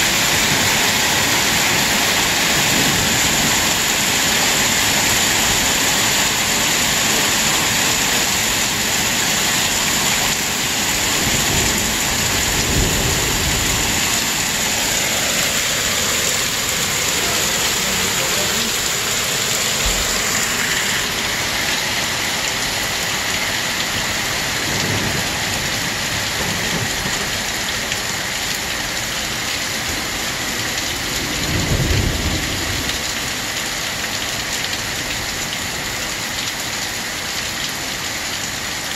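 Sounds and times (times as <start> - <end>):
hail falling on pavement: 0.0 - 38.9.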